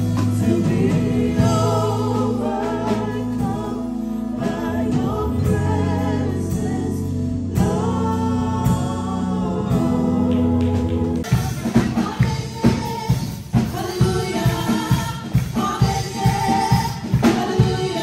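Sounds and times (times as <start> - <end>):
keyboard accompaniment: 0.0 - 18.0
singers in harmony: 0.0 - 18.0.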